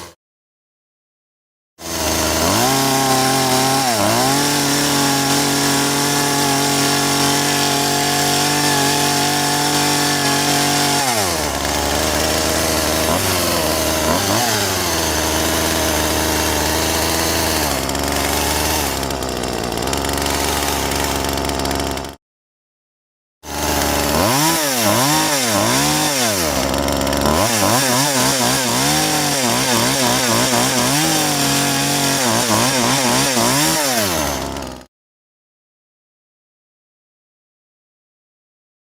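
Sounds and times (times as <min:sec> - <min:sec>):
chainsaw engine revving: 0:01.8 - 0:22.2, 0:23.4 - 0:34.9.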